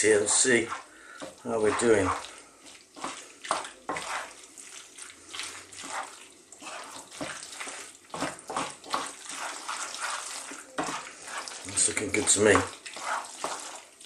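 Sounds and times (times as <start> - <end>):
spoon scraping a pan: 0.0 - 4.7, 5.4 - 13.9
wet squelching stirring: 0.0 - 14.0.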